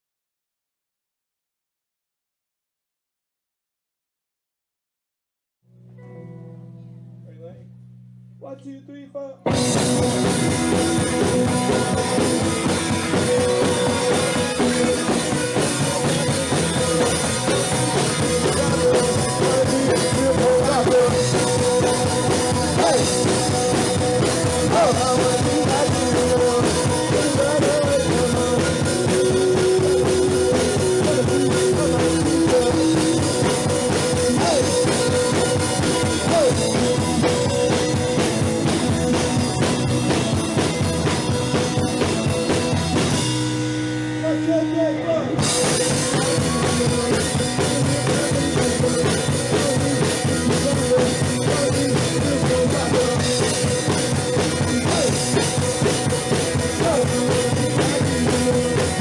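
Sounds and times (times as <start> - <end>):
electric guitar: 5.7 - 8.4, 9.4 - 59.0
bass guitar: 5.7 - 59.0
driving drum kit: 9.4 - 59.0.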